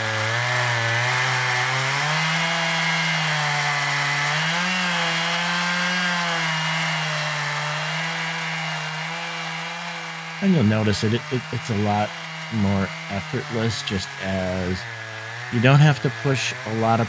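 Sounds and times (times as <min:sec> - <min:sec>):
chainsaw cutting through log: 0:00.0 - 0:17.0.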